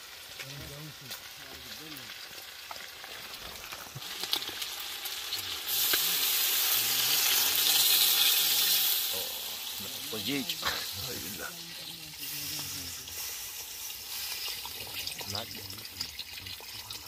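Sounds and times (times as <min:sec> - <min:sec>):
pot boiling and hissing: 0:00.0 - 0:17.0
water splashing into hot pot: 0:00.0 - 0:17.0.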